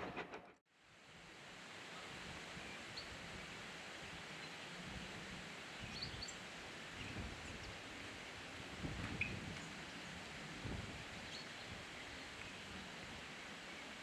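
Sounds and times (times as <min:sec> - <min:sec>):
steady rustling hiss: 0:00.0 - 0:14.0
low wind rumbles: 0:02.2 - 0:13.6.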